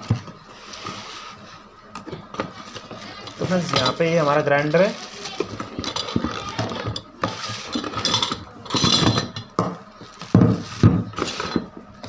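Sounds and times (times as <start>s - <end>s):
cardboard and plastic wrap rustling: 0.0s - 12.0s.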